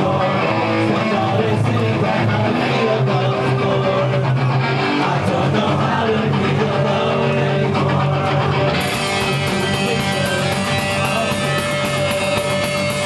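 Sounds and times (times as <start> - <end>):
bass guitar: 0.0 - 13.0
drums: 0.0 - 13.0
strummed electric guitars: 0.0 - 13.0.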